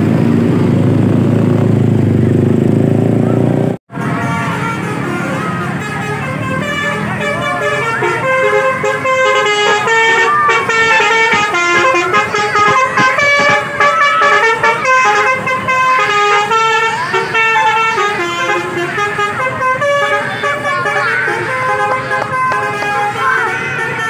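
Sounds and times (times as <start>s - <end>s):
bus horn playing a melody: 3.9s - 24.0s.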